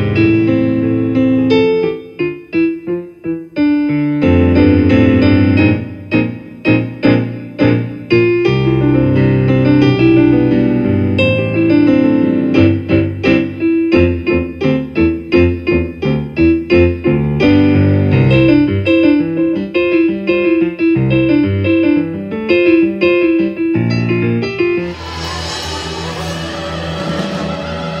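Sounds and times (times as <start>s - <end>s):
piano playing show-tune chords: 0.0s - 28.0s.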